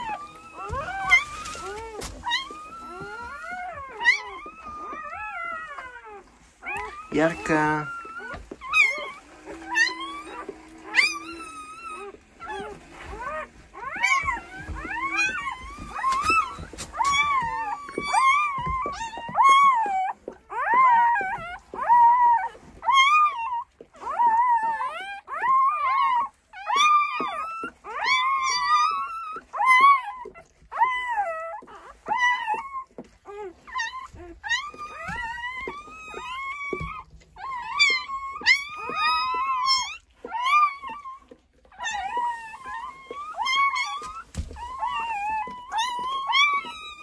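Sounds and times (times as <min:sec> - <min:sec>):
puppies squealing: 0:00.0 - 0:47.0
puppy whining: 0:00.0 - 0:47.0.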